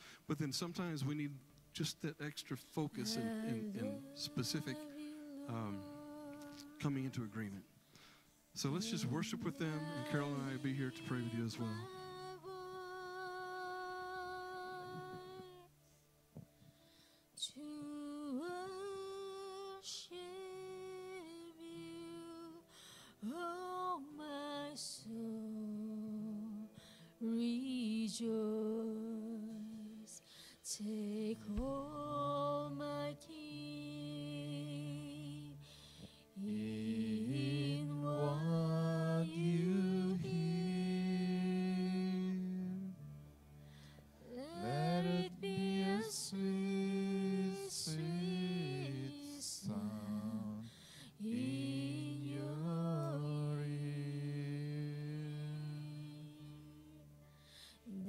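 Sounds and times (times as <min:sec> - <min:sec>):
slow worship singing: 0:01.8 - 0:58.0.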